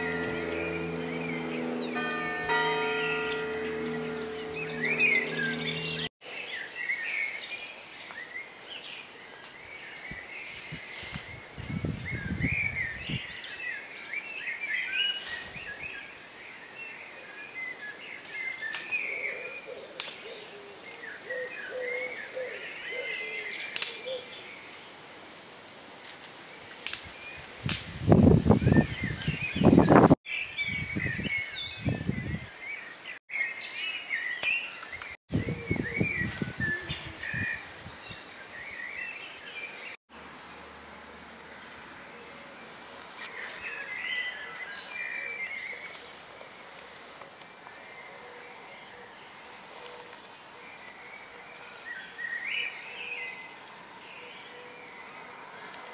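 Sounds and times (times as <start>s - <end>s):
birds singing and chirping: 0.0s - 24.9s, 27.0s - 40.0s, 43.2s - 55.9s.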